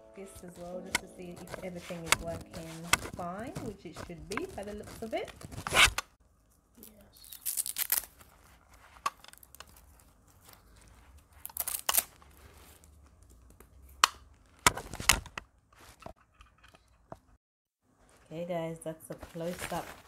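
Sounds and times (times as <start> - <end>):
cable and packaging rustling: 0.5 - 6.1, 6.8 - 17.1, 19.1 - 20.0.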